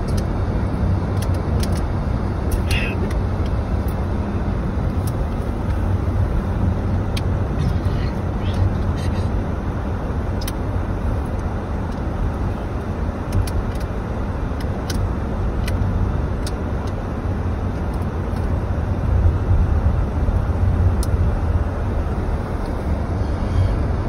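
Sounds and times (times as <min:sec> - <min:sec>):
car driving on wet road: 0:00.0 - 0:24.0.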